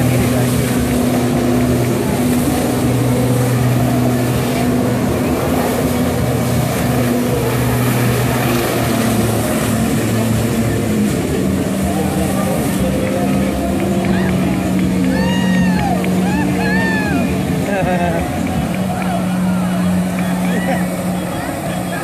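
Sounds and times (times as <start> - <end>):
watercraft engine running hard: 0.0 - 22.0.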